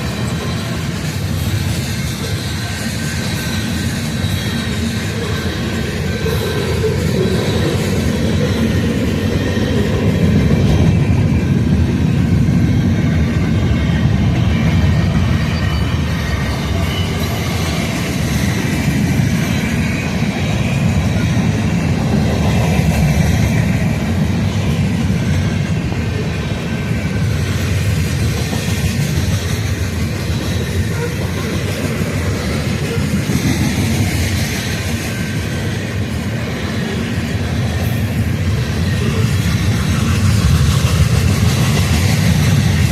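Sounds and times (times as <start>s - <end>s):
freight train wheels rumbling: 0.0s - 42.9s.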